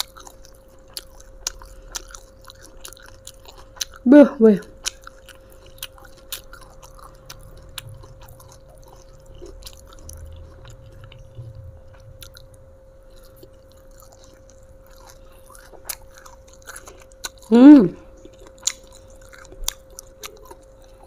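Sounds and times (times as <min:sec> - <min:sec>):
person chewing: 0:00.0 - 0:04.1, 0:04.7 - 0:21.0.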